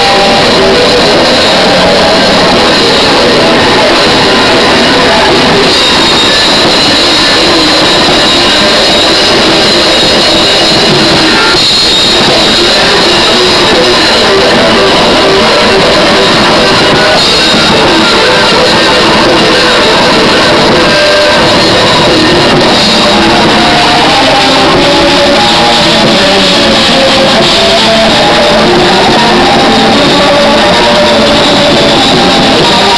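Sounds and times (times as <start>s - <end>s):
bass guitar: 0.0s - 32.9s
drums: 0.0s - 32.9s
electric guitars: 0.0s - 32.9s.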